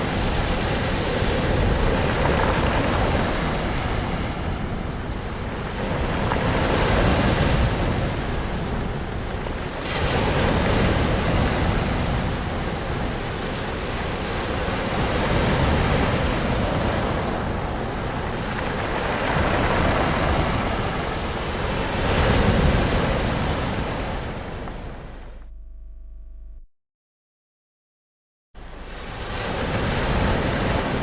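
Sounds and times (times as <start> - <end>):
ocean waves breaking: 0.0 - 25.3, 28.6 - 31.0.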